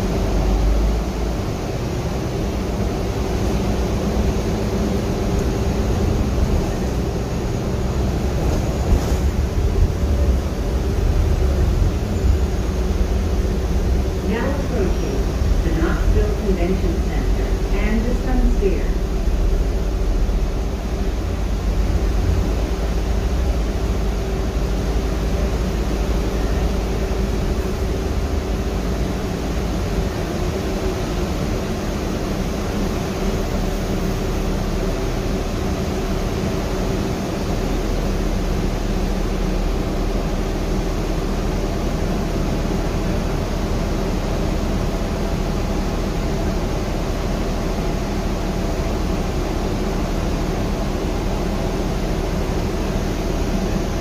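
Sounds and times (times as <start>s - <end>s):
bus drivetrain drone: 0.0s - 54.0s
road and air noise hiss: 0.0s - 54.0s.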